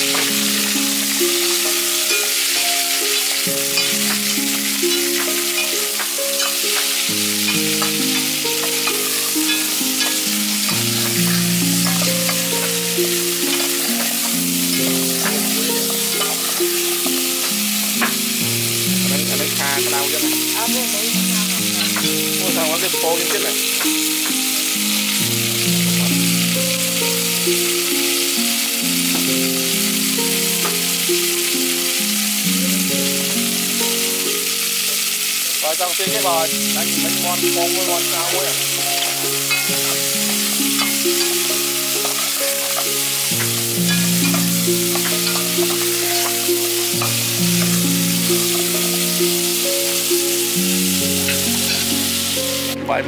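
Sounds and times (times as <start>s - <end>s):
music of low held notes: 0.0s - 35.3s, 36.1s - 53.0s
chicken sizzling in a pot: 0.0s - 53.0s.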